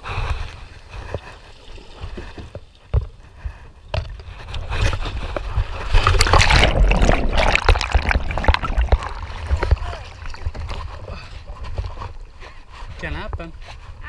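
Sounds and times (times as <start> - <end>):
water splashing and churning: 0.6 - 13.0.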